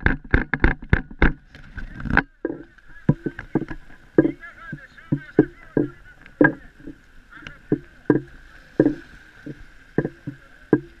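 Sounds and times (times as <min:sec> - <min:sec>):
small waves slapping: 0:00.0 - 0:11.0.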